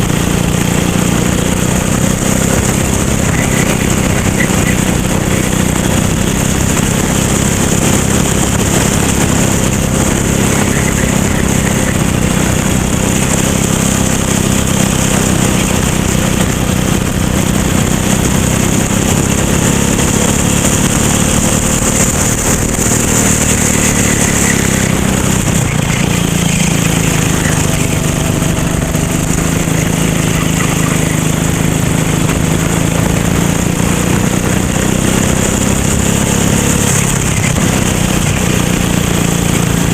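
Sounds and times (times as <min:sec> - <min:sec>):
racing kart engine running: 0:00.0 - 0:39.9.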